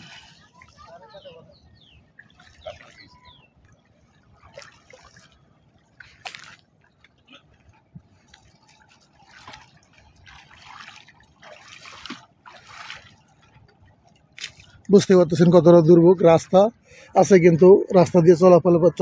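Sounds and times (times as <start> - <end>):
water splashing and sloshing: 0.0 - 17.1.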